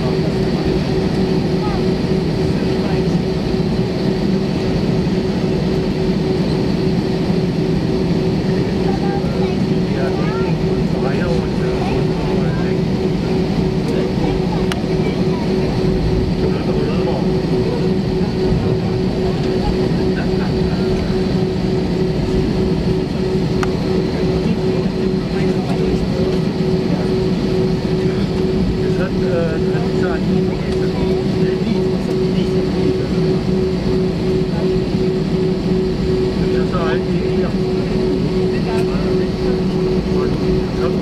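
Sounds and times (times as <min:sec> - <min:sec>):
jet engine drone in cabin: 0:00.0 - 0:41.0
rolling aircraft rumble: 0:00.0 - 0:41.0.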